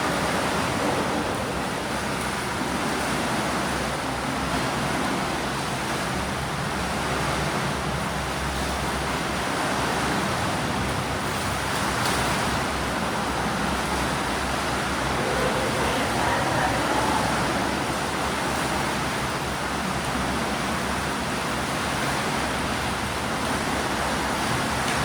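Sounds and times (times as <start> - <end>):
water splashing from swimmers: 0.0 - 25.0.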